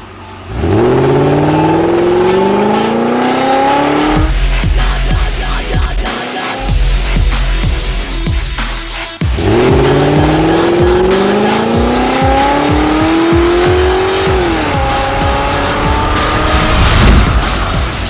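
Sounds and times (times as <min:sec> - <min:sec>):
electronic music with steady beat: 0:00.0 - 0:18.0
vehicle engine revving: 0:00.0 - 0:18.0.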